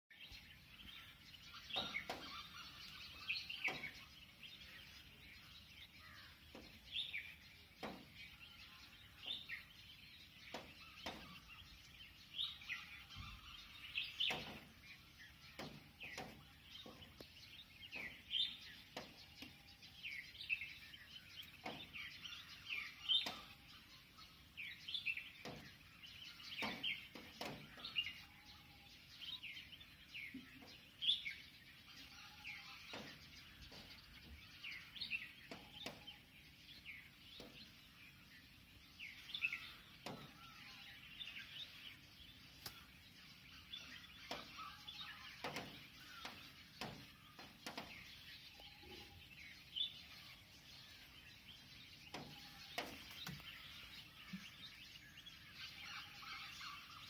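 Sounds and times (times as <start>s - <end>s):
birds chirping: 0.1s - 57.0s.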